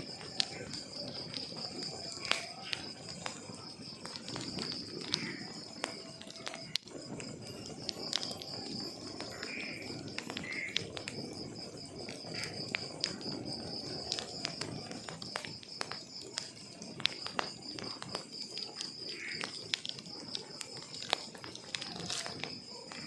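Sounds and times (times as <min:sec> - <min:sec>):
cricket chirping: 0:00.0 - 0:23.0
log fire crackling: 0:00.0 - 0:23.0.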